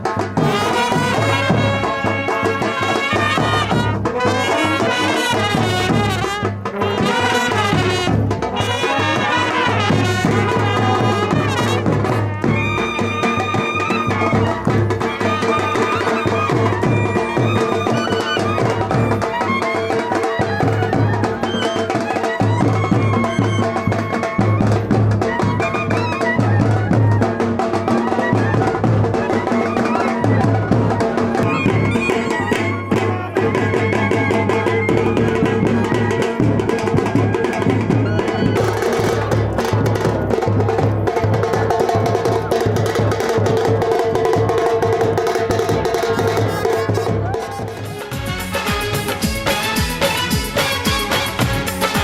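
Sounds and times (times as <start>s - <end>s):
instrumental music with drum beat: 0.0s - 52.0s.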